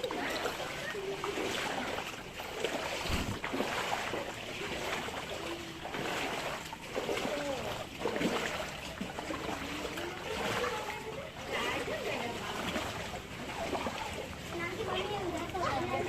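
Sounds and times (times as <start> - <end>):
voices chattering: 0.0 - 3.0, 4.5 - 16.0
floodwater sloshing and splashing: 0.0 - 16.0.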